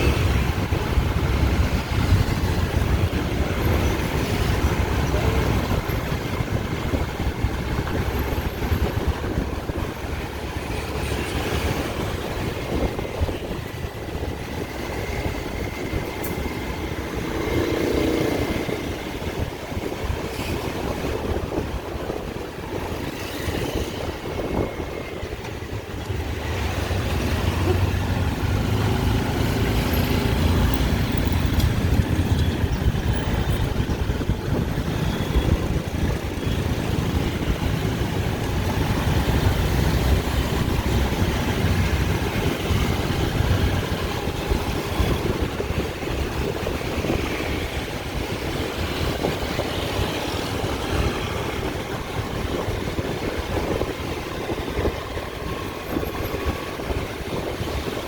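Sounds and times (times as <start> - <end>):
traffic engines rumbling: 0.0 - 58.0.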